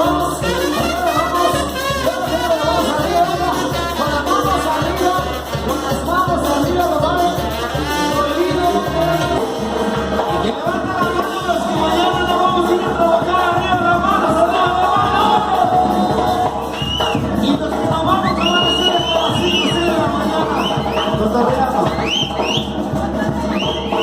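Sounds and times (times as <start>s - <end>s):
dance music with singing: 0.0s - 24.0s.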